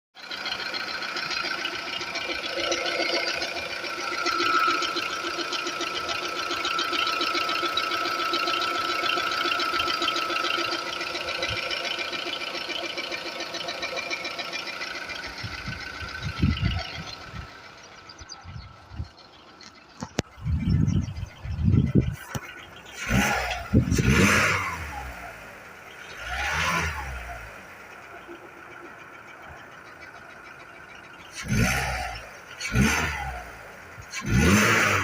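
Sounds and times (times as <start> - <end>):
car engine ticking: 0.2 - 35.0.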